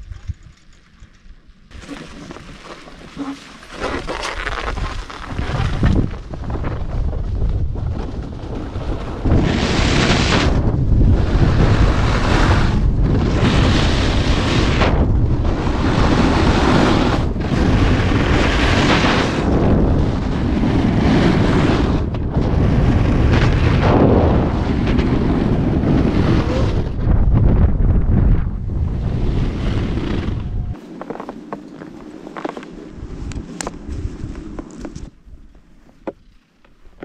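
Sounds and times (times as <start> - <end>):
wind rumble on microphone: 0.0 - 36.3
snowboard edge scraping snow: 1.7 - 27.0, 28.8 - 36.1.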